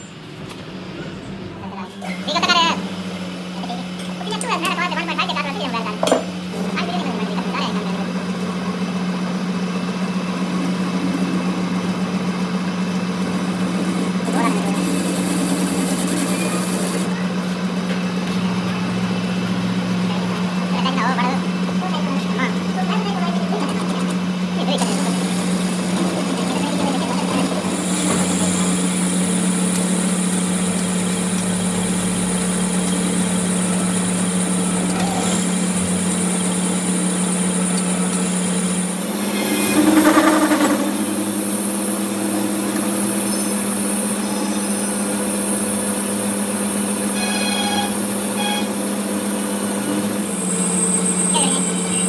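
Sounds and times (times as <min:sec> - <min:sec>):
machine humming: 0:00.0 - 0:52.0.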